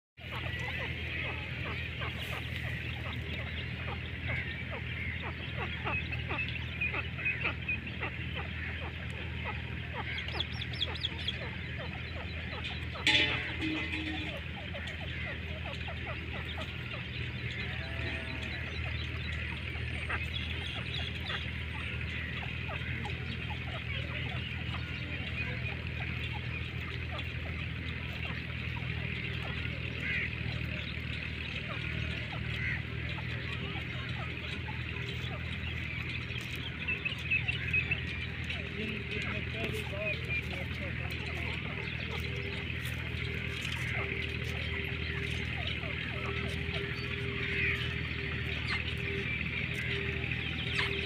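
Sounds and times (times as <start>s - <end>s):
bird chicks chirping: 0.2s - 51.0s
francolins calling: 0.2s - 51.0s
high twittering: 0.2s - 51.0s
steady low hum: 0.2s - 51.0s.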